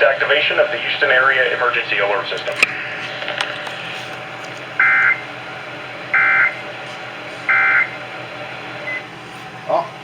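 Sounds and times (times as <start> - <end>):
steady radio hiss: 0.0 - 10.0.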